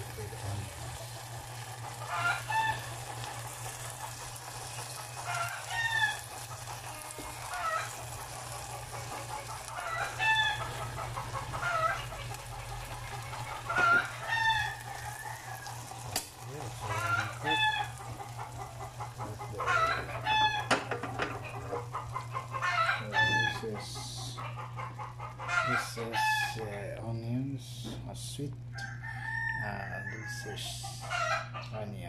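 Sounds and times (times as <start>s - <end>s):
chickens calling: 0.0s - 28.0s, 28.7s - 32.0s
steady low hum: 0.0s - 28.8s.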